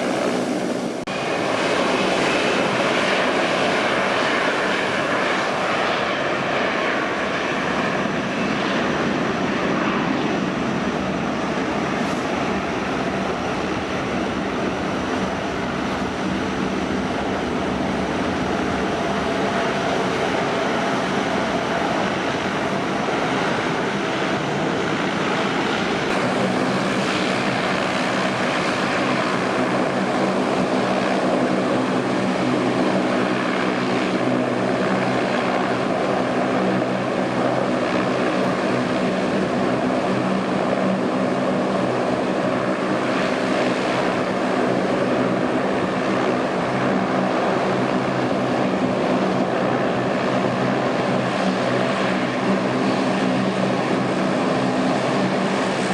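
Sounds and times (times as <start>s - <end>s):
turboprop engines droning: 0.0s - 55.9s.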